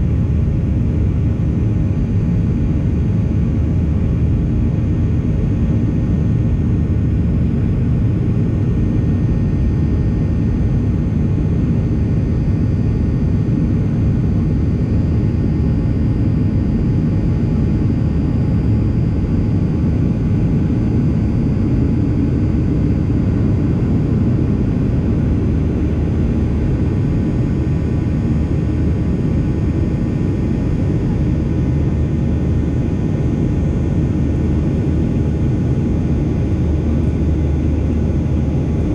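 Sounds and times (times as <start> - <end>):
airplane cabin rumble: 0.0 - 38.9
faint steady whines: 0.0 - 38.9.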